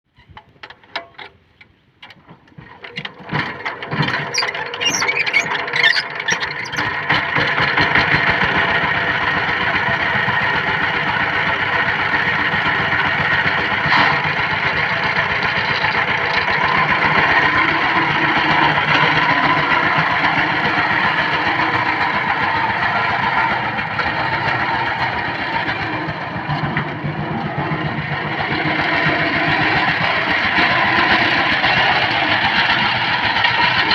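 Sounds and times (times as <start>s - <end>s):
diesel engine starting: 1.3s - 33.9s.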